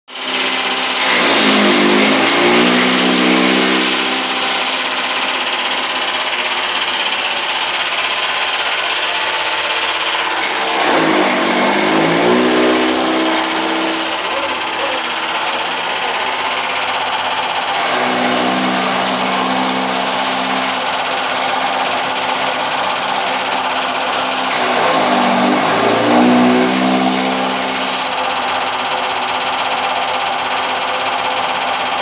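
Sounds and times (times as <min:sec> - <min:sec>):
electric chaff cutter whirring: 0:00.1 - 0:32.0.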